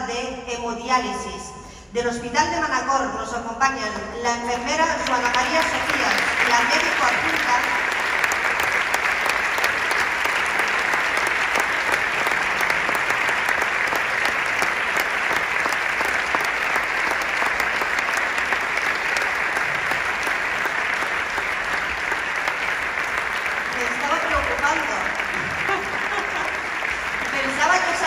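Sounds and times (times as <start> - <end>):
audience applauding: 5.0 - 28.0.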